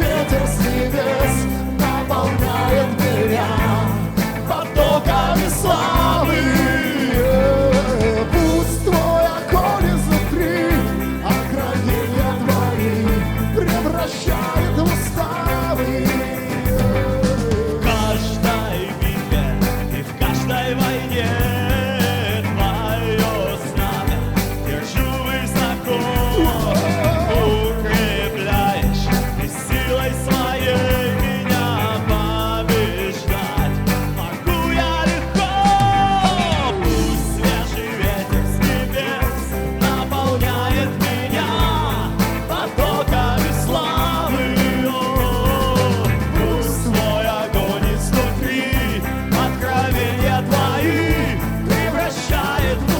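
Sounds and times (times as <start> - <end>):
band playing rock music: 0.0 - 52.9.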